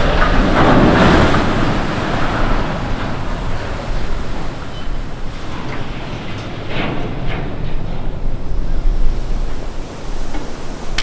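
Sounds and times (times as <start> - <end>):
water splashing and surging: 0.0 - 11.0
wind buffeting microphone: 0.0 - 11.0.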